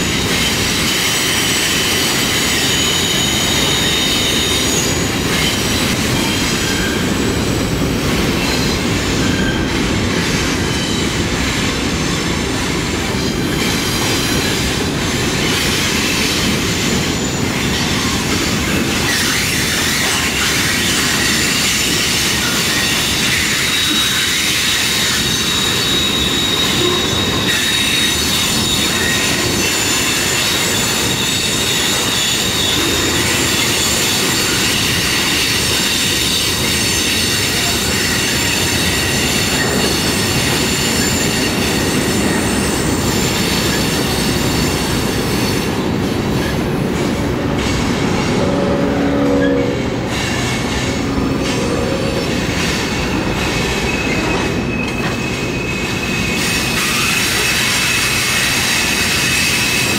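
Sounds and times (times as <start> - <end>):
steel wheels squealing on rail: 0.0 - 59.9.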